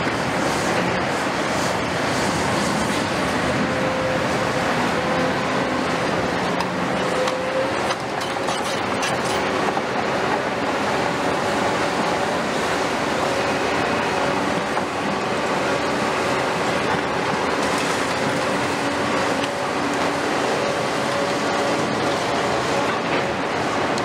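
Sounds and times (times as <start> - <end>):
excavator diesel engines: 0.0 - 24.0.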